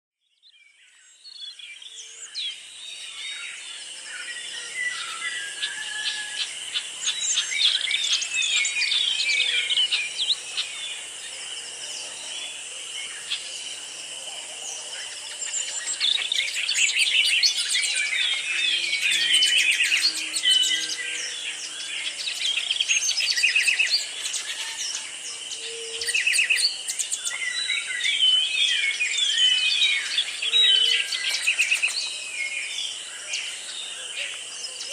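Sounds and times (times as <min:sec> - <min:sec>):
birds singing and chirping: 0:00.4 - 0:34.9
high-pitched insect drone: 0:04.1 - 0:34.8.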